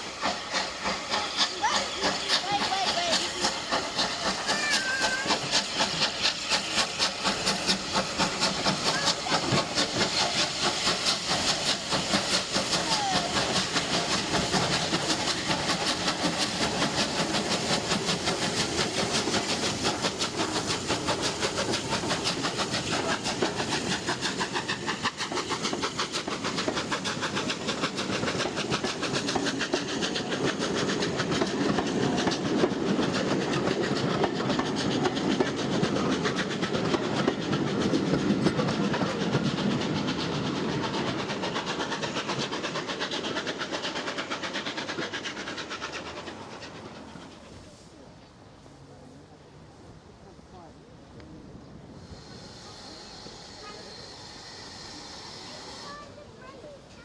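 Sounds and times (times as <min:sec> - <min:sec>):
steam train running: 0:00.0 - 0:57.0.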